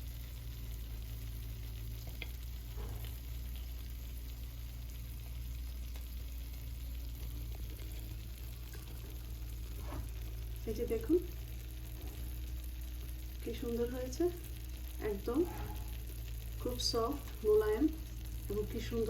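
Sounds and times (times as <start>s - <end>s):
even hiss: 0.0s - 19.0s
low hum: 0.0s - 19.0s.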